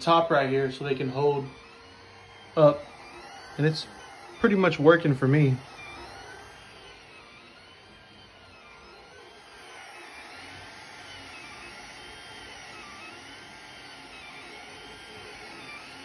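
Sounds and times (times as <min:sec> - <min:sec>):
cooling fans whirring: 0:00.0 - 0:16.0
stepper motors whining: 0:00.0 - 0:16.0.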